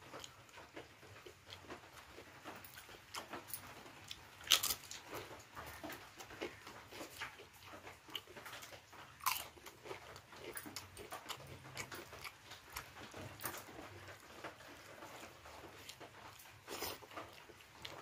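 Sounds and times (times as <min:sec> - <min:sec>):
chewing and mouth smacks: 0:00.1 - 0:18.0.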